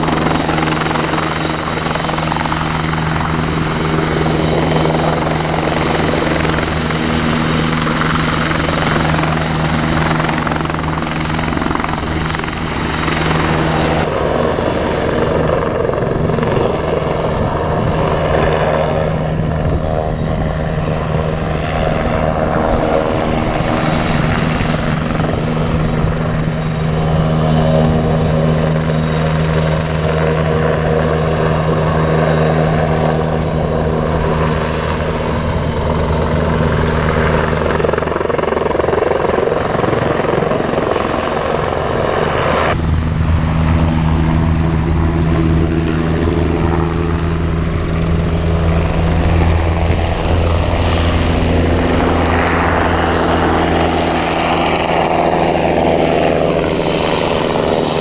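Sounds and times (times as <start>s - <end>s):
helicopter flying overhead: 0.0s - 58.0s.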